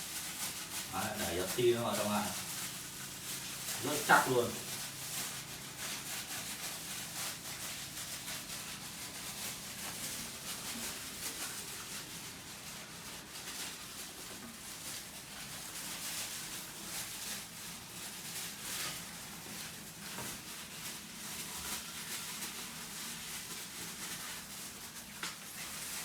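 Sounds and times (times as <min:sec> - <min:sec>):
plastic bag rustling and rubbing: 0:00.0 - 0:26.0.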